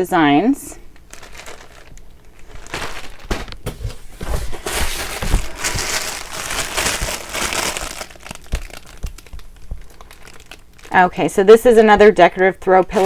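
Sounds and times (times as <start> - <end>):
packaging crinkling and rustling: 0.9 - 13.0.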